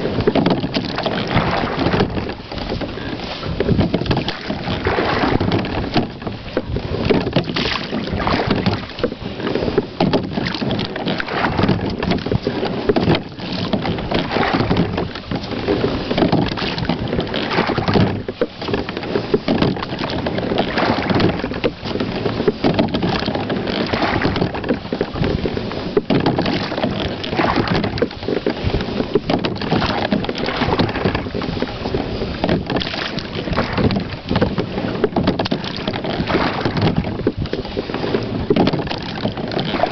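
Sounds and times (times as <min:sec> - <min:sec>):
rowing water splashing: 0:00.0 - 0:39.9.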